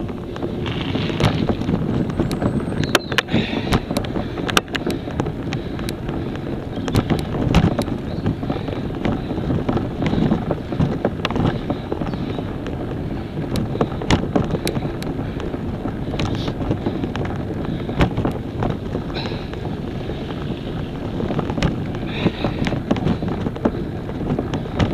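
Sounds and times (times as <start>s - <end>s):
gear rattling clicks and knocks: 0.0s - 24.9s
wind buffeting microphone: 0.0s - 24.9s.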